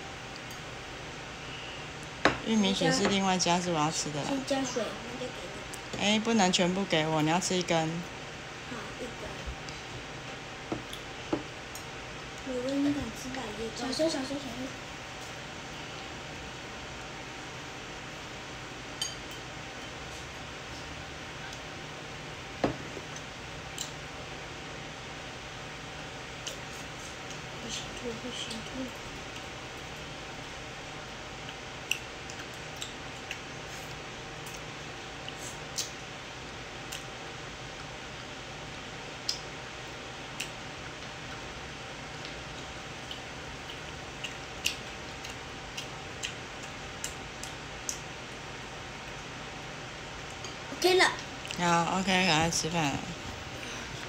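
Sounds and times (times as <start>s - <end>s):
background hum: 0.0s - 54.0s.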